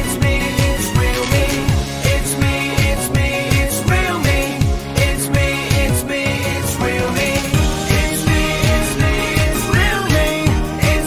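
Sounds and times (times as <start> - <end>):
pop music with kick drum beat: 0.0 - 11.0.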